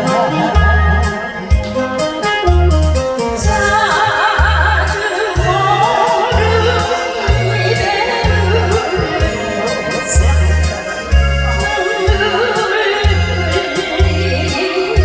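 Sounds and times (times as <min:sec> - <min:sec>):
person singing with vibrato: 0:00.0 - 0:02.4, 0:03.2 - 0:15.0
bass and drum beat: 0:00.0 - 0:15.0.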